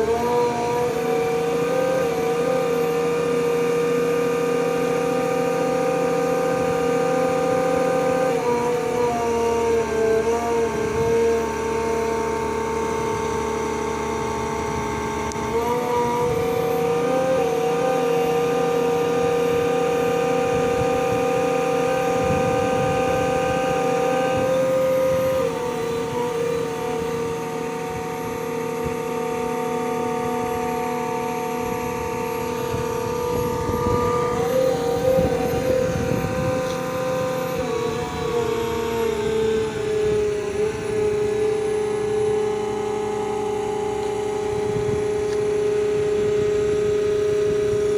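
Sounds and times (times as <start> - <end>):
concrete pump mechanical whine: 0.0 - 47.9.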